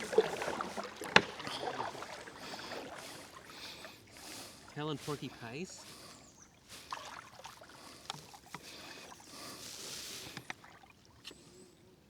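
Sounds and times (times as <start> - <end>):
paddle splashing in water: 0.0 - 11.8.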